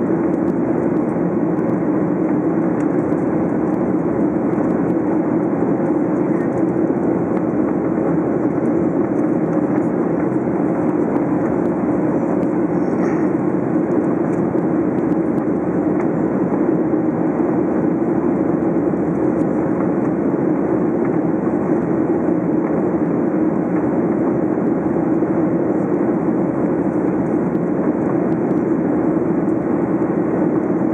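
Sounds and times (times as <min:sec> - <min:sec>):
jet engine drone: 0:00.0 - 0:30.9.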